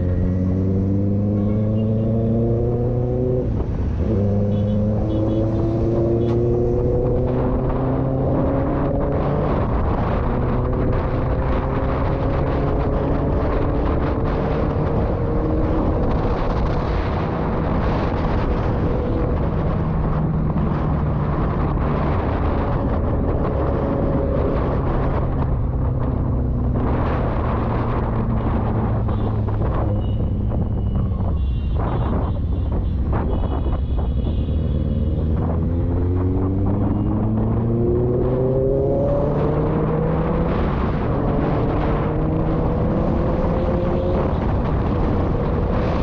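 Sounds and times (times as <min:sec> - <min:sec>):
wind and road noise: 0:00.0 - 0:46.0.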